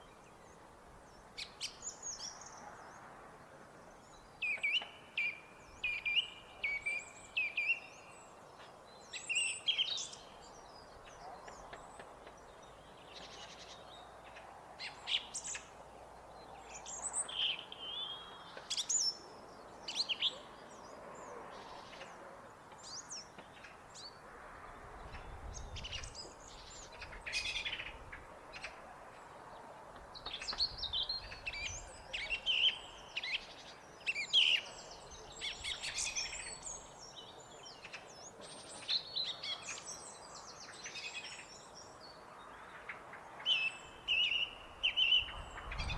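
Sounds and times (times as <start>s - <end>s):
faint background noise: 0.0s - 45.9s
song thrush singing: 3.9s - 24.2s, 25.0s - 45.9s.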